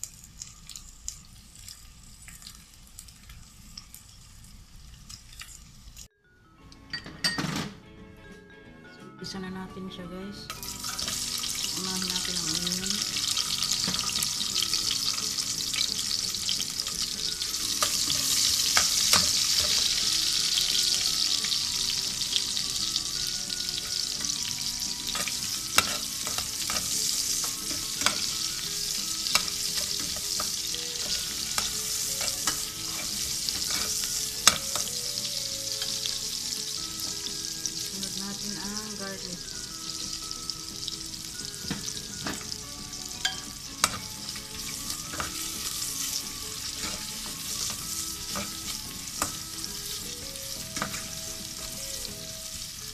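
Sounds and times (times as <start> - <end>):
onions sizzling in oil: 0.0 - 6.1, 10.5 - 52.9.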